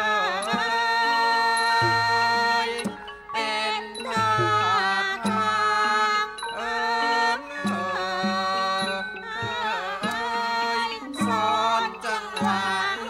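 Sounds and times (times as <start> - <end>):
traditional percussion ensemble music: 0.0 - 13.0.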